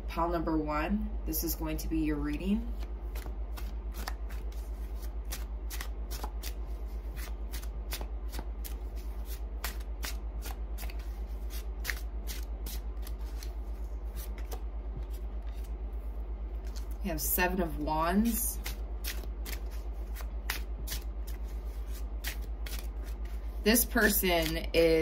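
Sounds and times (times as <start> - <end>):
cards being shuffled: 2.7 - 15.8, 16.6 - 17.0, 18.2 - 24.7.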